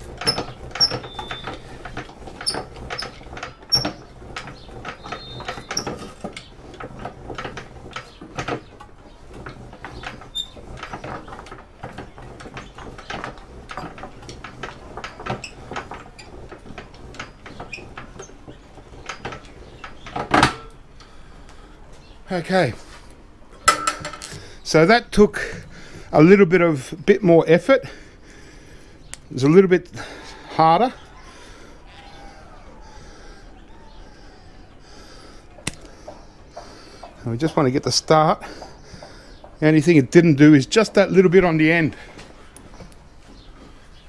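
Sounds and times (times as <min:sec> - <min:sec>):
wire stripper clicking and creaking: 0:00.0 - 0:21.6, 0:29.0 - 0:43.4.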